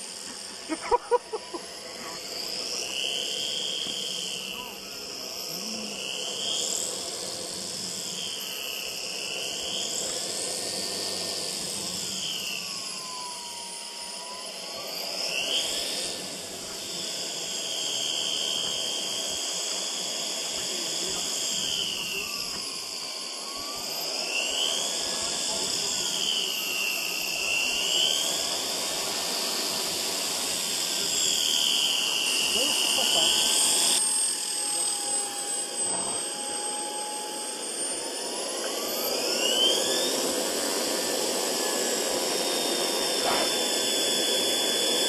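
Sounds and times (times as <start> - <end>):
model turbine engine whine: 0.0 - 45.0
propeller noise: 0.0 - 45.0.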